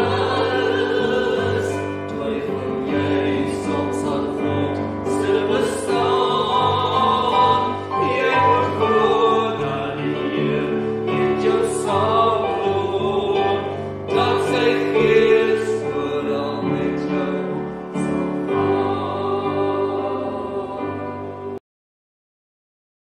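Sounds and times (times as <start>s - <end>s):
congregation singing a hymn: 0.0s - 21.6s
pipe organ: 0.0s - 21.6s.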